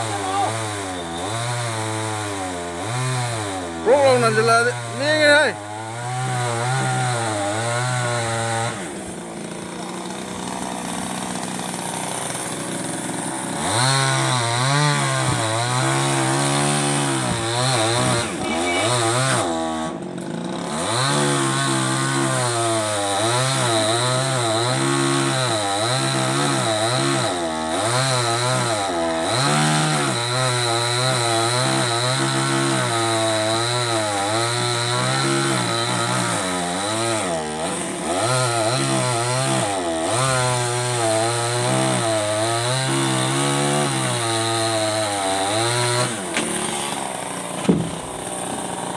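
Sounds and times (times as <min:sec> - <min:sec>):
chainsaw cutting tree trunk: 0:00.0 - 0:48.9.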